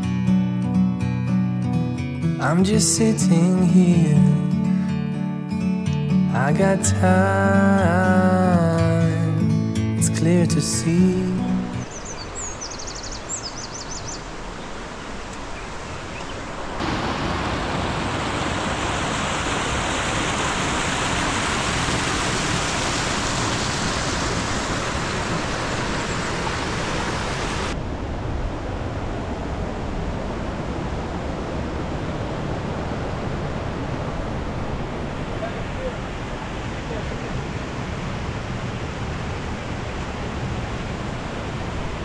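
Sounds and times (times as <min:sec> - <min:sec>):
river and waterfalls rushing: 0:02.0 - 0:42.0.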